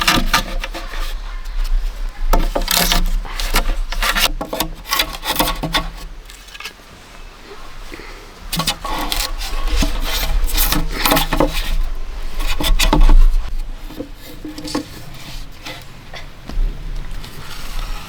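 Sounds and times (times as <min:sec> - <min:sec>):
scraping strokes on wood: 0:00.0 - 0:06.8, 0:08.5 - 0:18.0.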